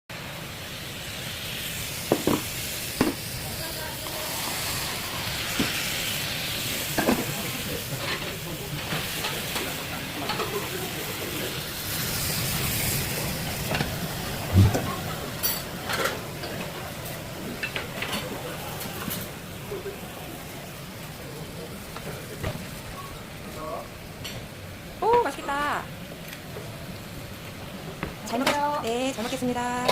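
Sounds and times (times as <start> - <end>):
soup sizzling and hissing: 0.1 - 29.9.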